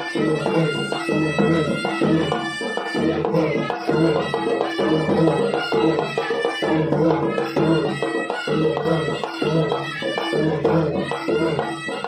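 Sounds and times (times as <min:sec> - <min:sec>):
drums beating fast rhythm: 0:00.0 - 0:12.0
reedy wind instrument melody: 0:00.0 - 0:12.0.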